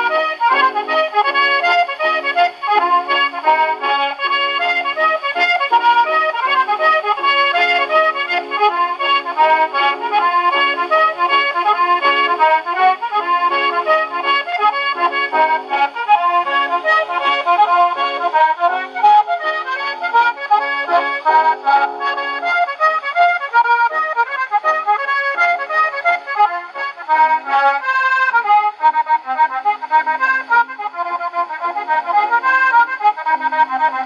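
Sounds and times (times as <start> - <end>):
button accordion: 0.0 - 34.0
piano accompaniment: 0.0 - 34.0.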